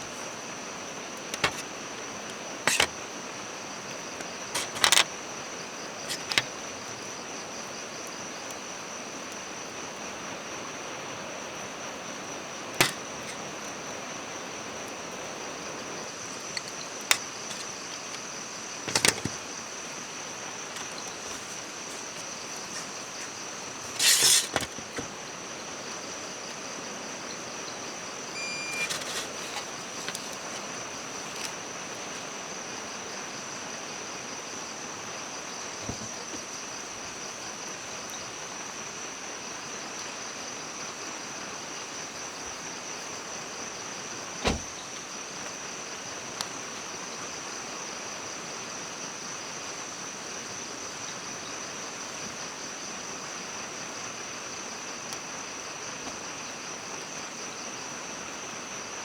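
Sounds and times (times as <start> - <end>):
background hiss: 0.0 - 59.0.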